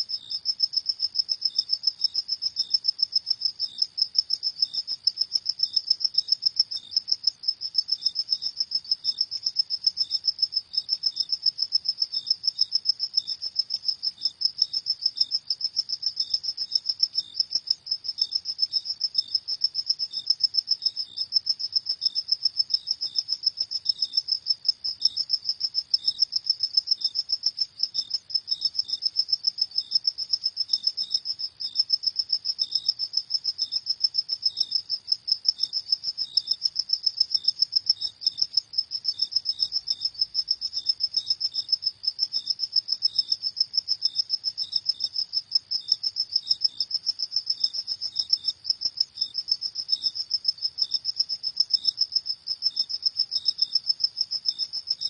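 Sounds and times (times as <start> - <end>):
crickets chirping: 0.0 - 55.0
lower cricket chirp: 0.0 - 55.0.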